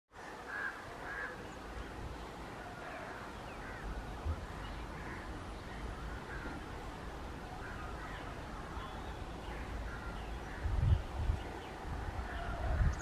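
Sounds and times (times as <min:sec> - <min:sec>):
birds calling: 0:00.2 - 0:13.0
distant train rumble: 0:00.5 - 0:13.0.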